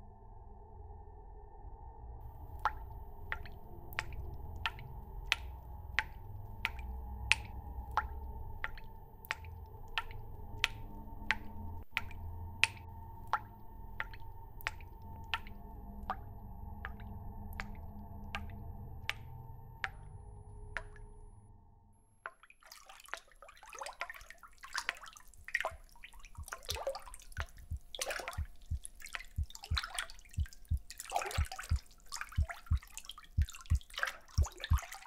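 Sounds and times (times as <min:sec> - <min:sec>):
low steady hum: 0:00.0 - 0:22.1, 0:23.8 - 0:35.0
water dripping: 0:02.3 - 0:21.2, 0:22.3 - 0:35.0.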